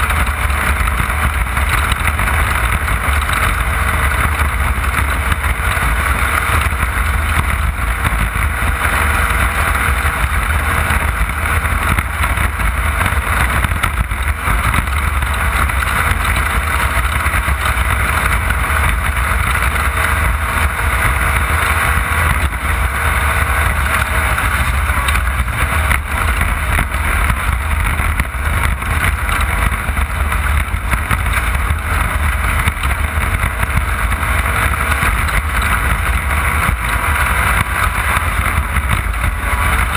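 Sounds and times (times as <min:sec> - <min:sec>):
race car engine running: 0:00.0 - 0:39.9
rushing noise: 0:00.0 - 0:39.9.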